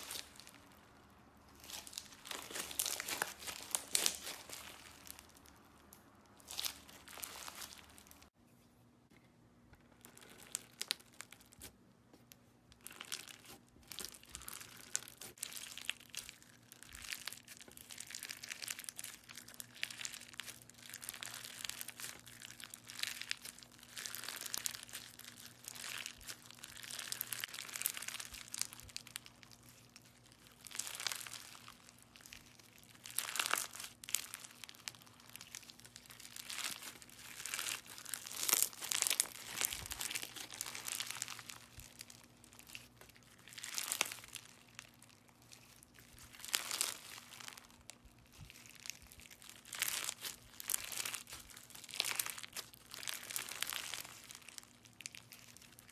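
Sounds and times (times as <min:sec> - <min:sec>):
slime being squished crackling: 0:00.0 - 0:08.3, 0:09.9 - 0:11.8, 0:12.7 - 0:55.9.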